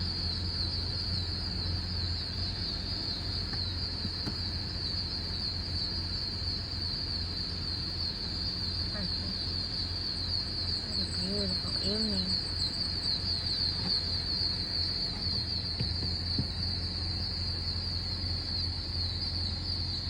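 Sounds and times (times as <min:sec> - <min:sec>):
crickets trilling: 0:00.0 - 0:20.0
low steady hum: 0:00.0 - 0:20.0.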